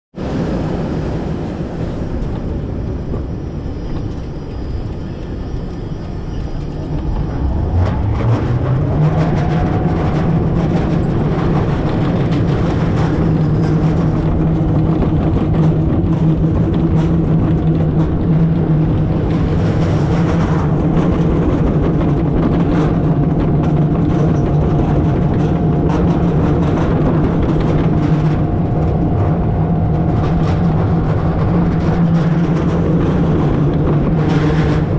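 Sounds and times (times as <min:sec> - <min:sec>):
ride drive heavy rumble: 0:00.2 - 0:34.9
motor hum rising in pitch: 0:05.6 - 0:34.9.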